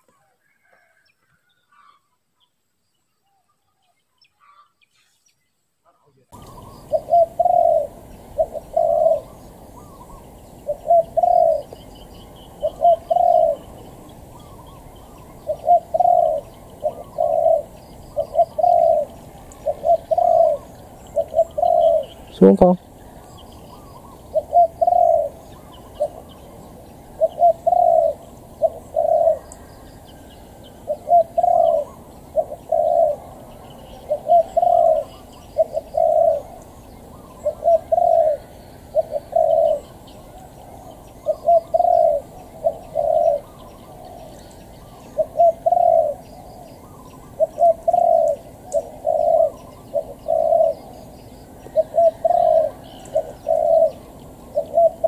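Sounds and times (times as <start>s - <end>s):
dove cooing: 6.4s - 55.0s.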